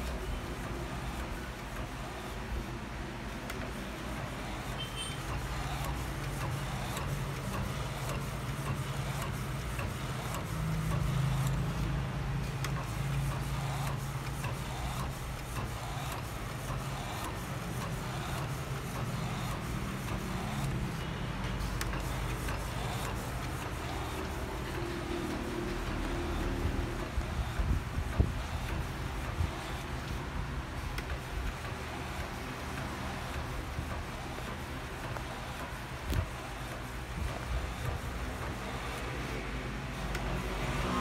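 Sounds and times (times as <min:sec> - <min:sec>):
printer motor hum: 0:00.0 - 0:41.0.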